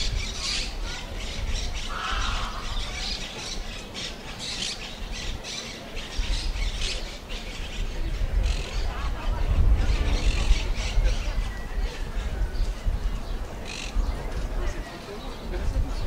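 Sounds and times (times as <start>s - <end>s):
birds squawking and chattering: 0.0s - 16.0s.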